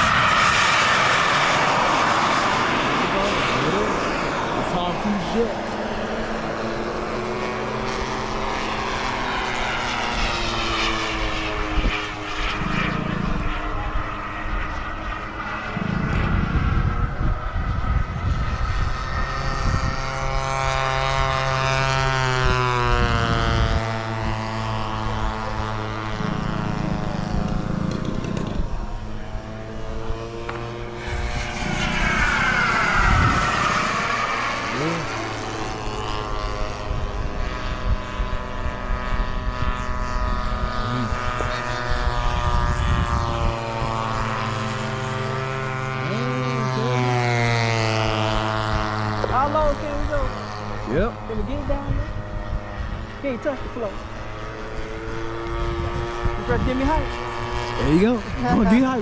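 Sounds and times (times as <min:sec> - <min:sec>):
model aircraft engine flying past: 0:00.0 - 0:59.0.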